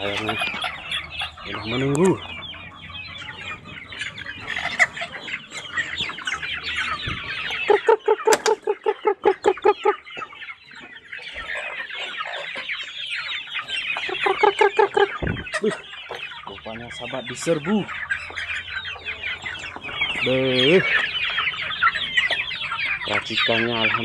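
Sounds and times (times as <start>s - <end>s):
chickens clucking and peeping: 0.0s - 24.0s
high falling chick calls: 0.0s - 24.0s.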